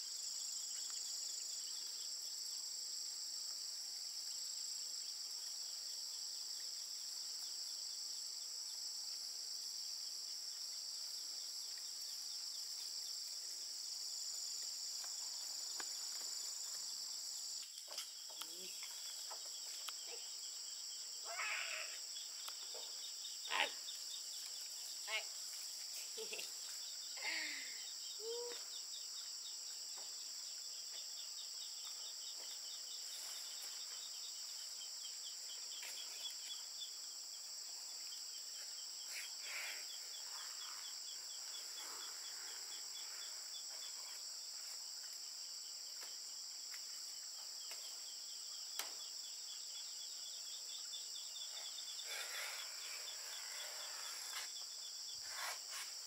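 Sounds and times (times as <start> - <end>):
fast pulsing insect trill: 0.0 - 56.0
high-pitched insect chorus: 0.0 - 56.0.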